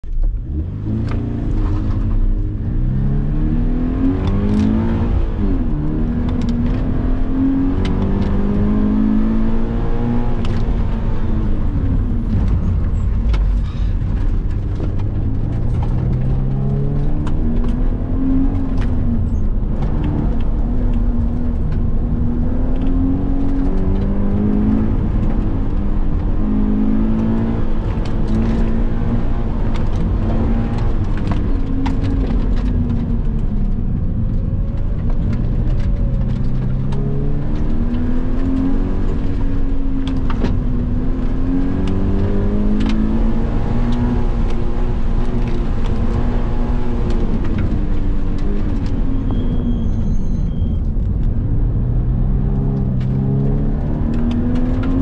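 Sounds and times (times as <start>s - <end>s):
road and tyre rumble: 0.0s - 55.0s
car engine revving: 0.2s - 55.0s.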